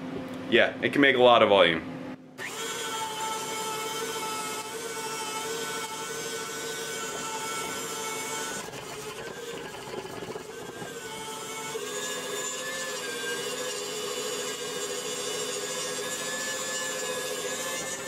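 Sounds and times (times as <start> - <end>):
stand mixer motor whining: 2.4 - 18.0.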